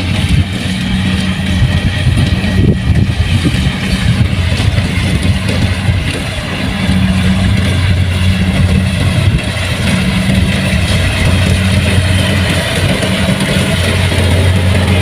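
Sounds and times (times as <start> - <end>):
diesel engine drone: 0.0 - 15.0
machinery clatter: 0.0 - 15.0.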